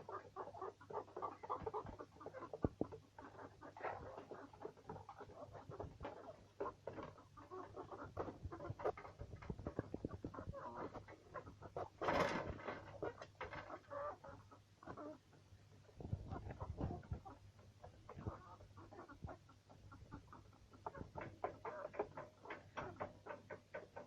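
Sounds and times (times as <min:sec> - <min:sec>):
chickens clucking: 0:00.0 - 0:24.0
chickens pecking at feed: 0:00.0 - 0:24.0.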